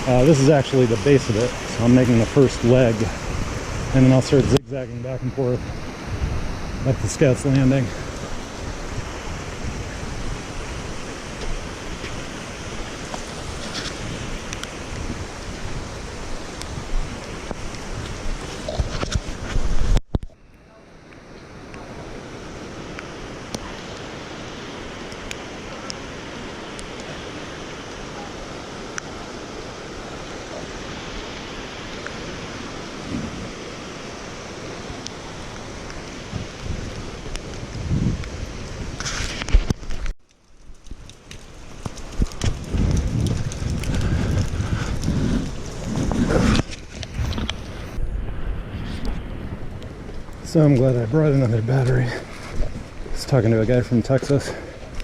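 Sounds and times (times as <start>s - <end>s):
wind buffeting microphone: 0.0s - 20.3s, 28.5s - 55.0s.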